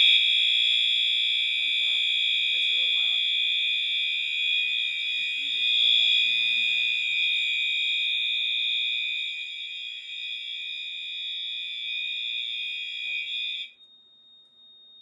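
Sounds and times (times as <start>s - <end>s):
fire alarm tone: 0.0s - 15.0s.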